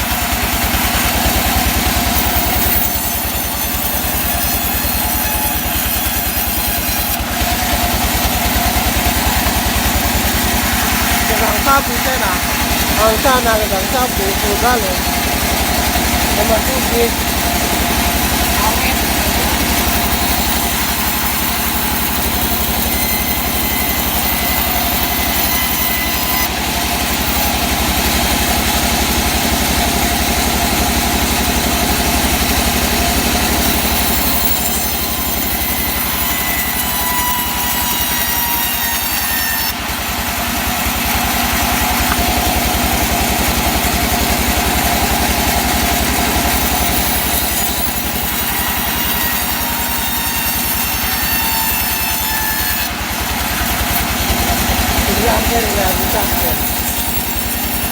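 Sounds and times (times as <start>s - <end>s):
sawmill machinery drone: 0.0s - 57.9s.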